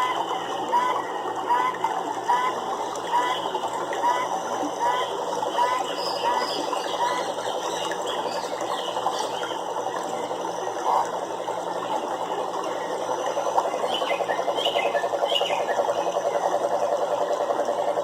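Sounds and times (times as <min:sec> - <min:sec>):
chorus of frogs calling: 0:00.0 - 0:18.0.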